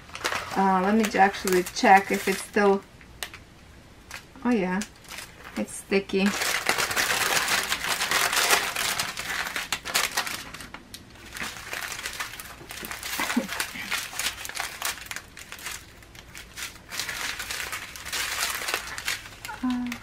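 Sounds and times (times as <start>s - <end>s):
plastic bags rustling and crinkling: 0.0s - 3.4s, 4.1s - 20.0s.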